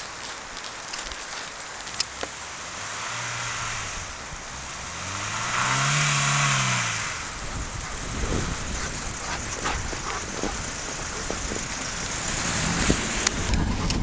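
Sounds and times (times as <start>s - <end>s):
car engine pulling: 0.0s - 14.0s
tyres hissing on snow: 0.0s - 14.0s.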